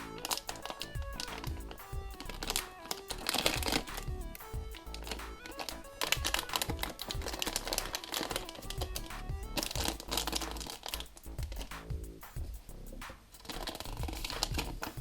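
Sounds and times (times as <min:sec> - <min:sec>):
background music: 0:00.0 - 0:12.4.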